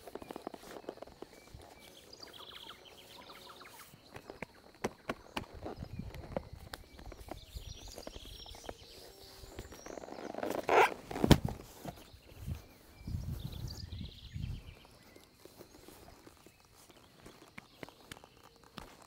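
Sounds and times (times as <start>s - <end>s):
feet and hooves thudding on dirt: 0.0s - 19.0s
saddle rustling: 0.0s - 19.0s.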